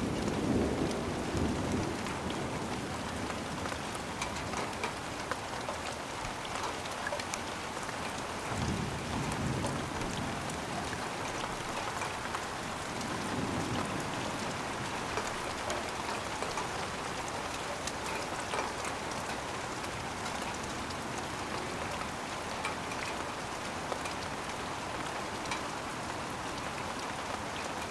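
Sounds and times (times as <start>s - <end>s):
rain pattering on surfaces: 0.0s - 27.9s.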